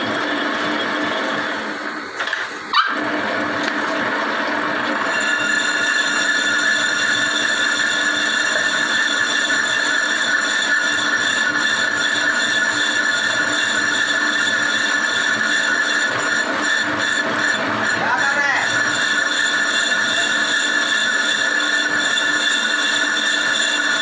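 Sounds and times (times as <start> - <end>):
lathe cutting metal squeal: 0.1 - 2.0, 4.8 - 24.0.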